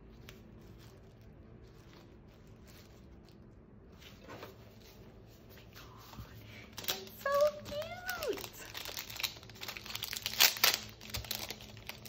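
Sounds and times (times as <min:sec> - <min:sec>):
plastic cover rustling: 0:00.0 - 0:12.0.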